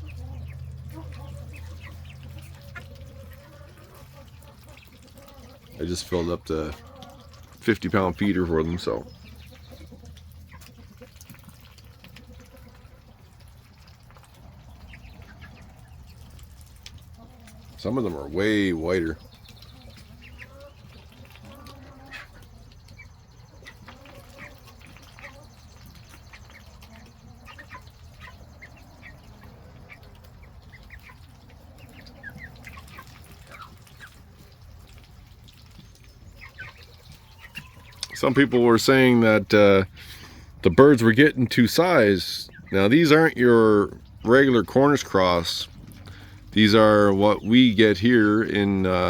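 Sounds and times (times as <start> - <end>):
birds pecking at feed: 0.0 - 49.0
chicks peeping: 0.0 - 49.0.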